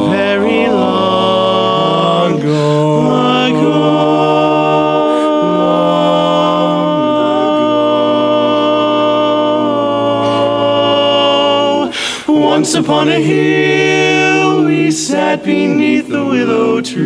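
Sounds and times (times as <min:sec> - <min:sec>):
male voices singing chords: 0:00.0 - 0:17.0.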